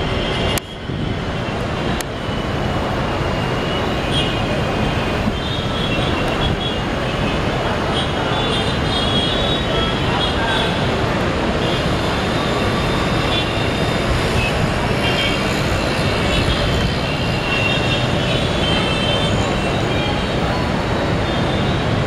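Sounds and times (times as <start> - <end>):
train rumble on track: 0.0 - 22.0.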